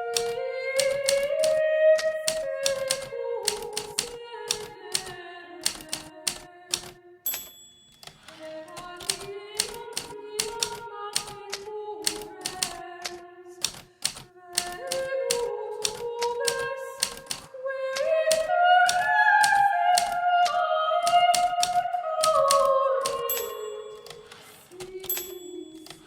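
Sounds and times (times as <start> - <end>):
typewriter keys clicking: 0.0 - 26.0.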